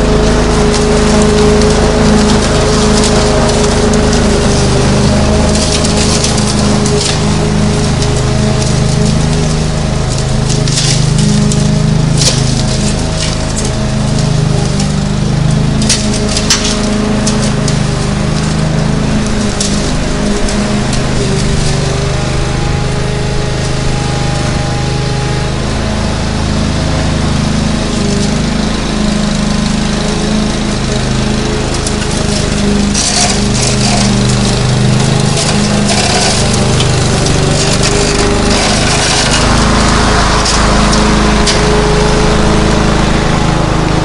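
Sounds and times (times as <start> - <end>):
lawn mower engine running: 0.0 - 44.0.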